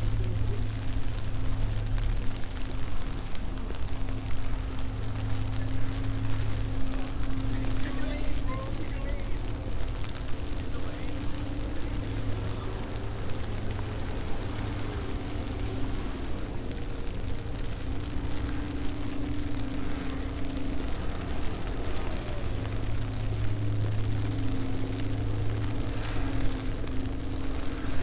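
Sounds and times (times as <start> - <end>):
low steady hum: 0.0 - 28.0
rain hissing: 0.0 - 28.0
wet traffic: 0.0 - 28.0.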